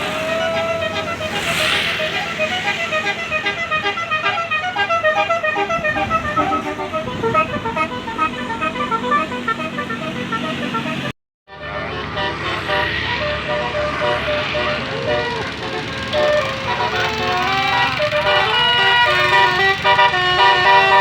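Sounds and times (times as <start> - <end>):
bus horn playing a melody: 0.0 - 21.0
bus rumble: 0.0 - 21.0.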